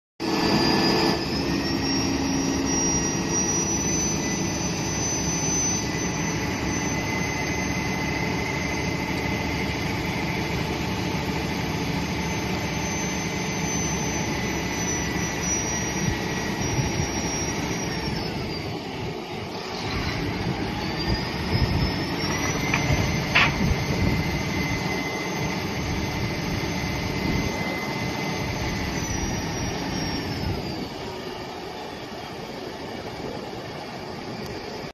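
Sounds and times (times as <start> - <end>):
diesel engine at high revs: 0.2 - 34.6
high hydraulic whine: 0.2 - 34.9.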